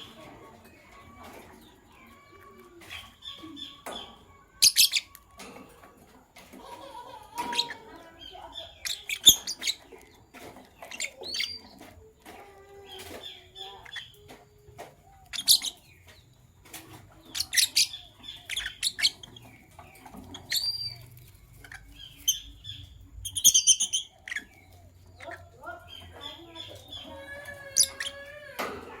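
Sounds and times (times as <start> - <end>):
lovebirds chirping: 0.0 - 29.0
soft bird chatter: 0.0 - 29.0.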